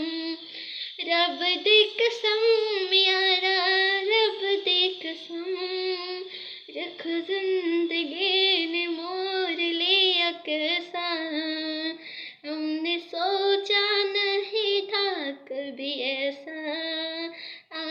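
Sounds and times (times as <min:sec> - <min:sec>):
boy singing solo: 0:00.0 - 0:17.9.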